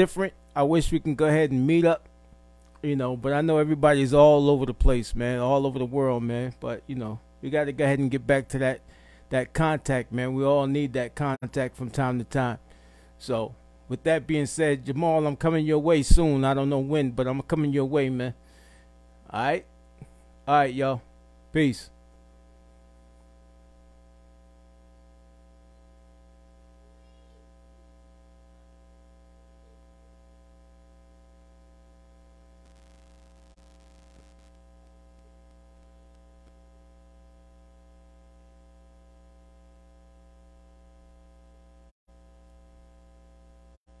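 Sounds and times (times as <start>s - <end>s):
electrical mains hum: 0.0s - 44.0s.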